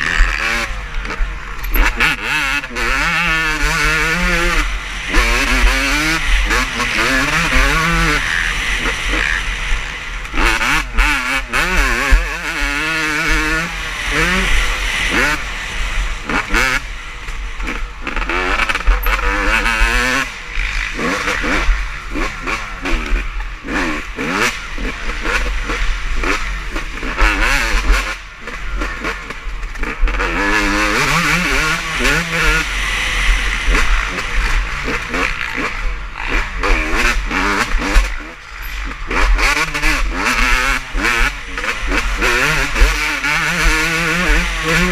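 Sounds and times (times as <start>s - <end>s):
motocross bike engines revving: 0.0s - 44.9s.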